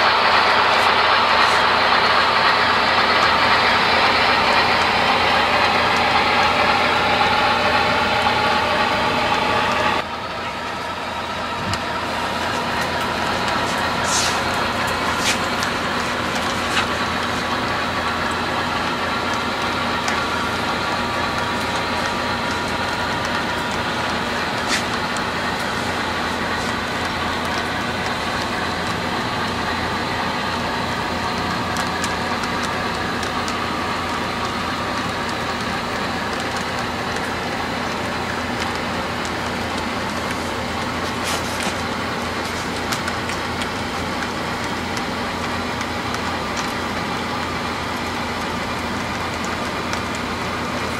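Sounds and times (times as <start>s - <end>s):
model train cars whirring on track: 0.0s - 50.9s
wheels clicking over rails: 0.0s - 50.9s.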